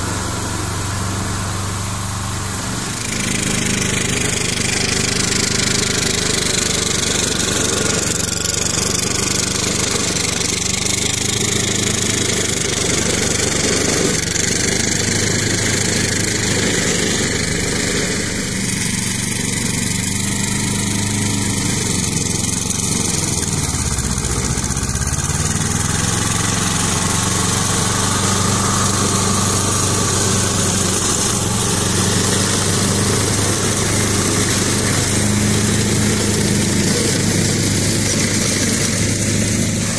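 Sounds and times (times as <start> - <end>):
brush cutter hissing: 0.0 - 39.9
tractor diesel engine running: 0.0 - 39.9.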